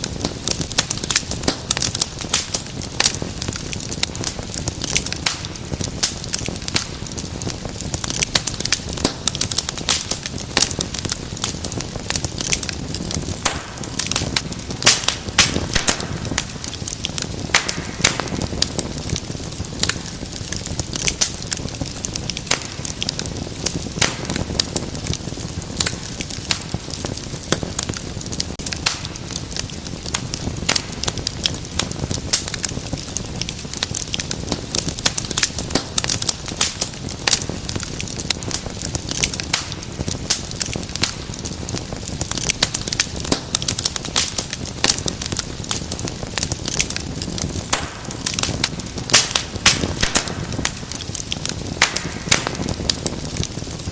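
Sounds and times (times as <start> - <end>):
low rumble of flame: 0.0 - 53.9
wood fire crackling and popping: 0.0 - 53.9.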